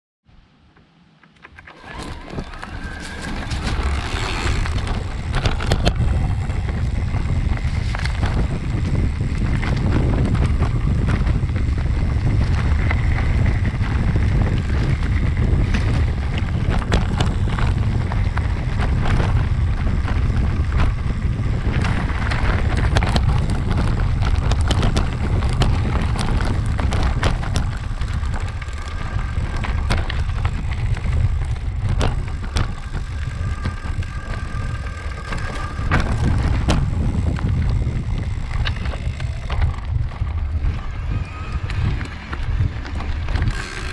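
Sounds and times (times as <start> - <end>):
tyres rumbling on dirt: 1.4 - 43.9.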